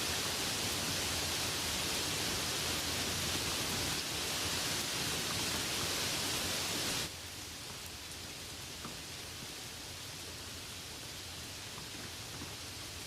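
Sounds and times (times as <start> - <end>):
light rain hissing: 0.0 - 13.0.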